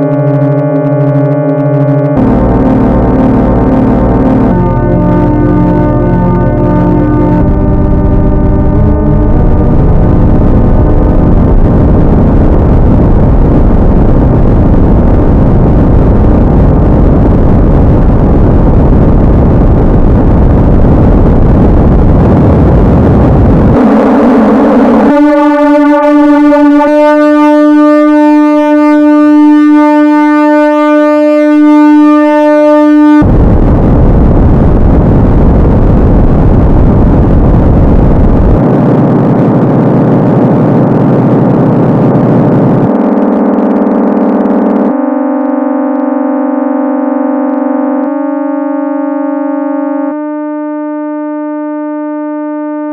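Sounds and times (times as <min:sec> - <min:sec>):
buzzing sine-wave chords: 0:00.0 - 0:52.9.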